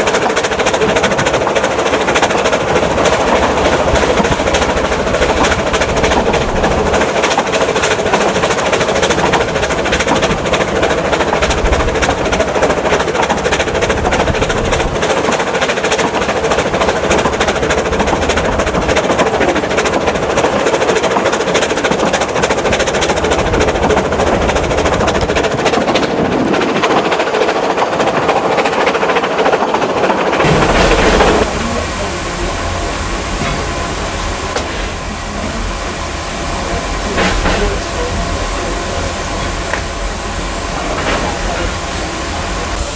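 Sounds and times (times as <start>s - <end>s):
rail noise: 0.0s - 42.9s
steam locomotive running: 0.0s - 42.9s.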